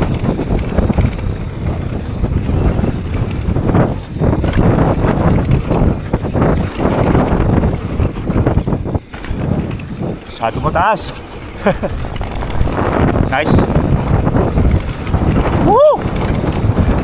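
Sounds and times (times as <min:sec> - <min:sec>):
bike knocking and clattering: 0:00.0 - 0:17.0
bike tyres rumbling on dirt: 0:00.0 - 0:17.0
wind buffeting microphone: 0:00.0 - 0:17.0.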